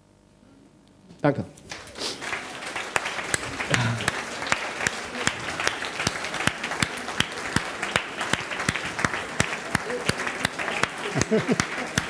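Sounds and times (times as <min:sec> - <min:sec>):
audience applauding: 0:01.7 - 0:12.0.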